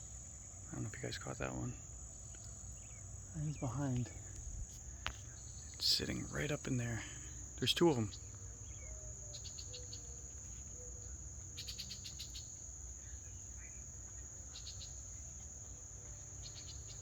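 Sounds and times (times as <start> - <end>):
hummingbirds chattering: 0.0 - 17.0
insects droning: 0.0 - 17.0.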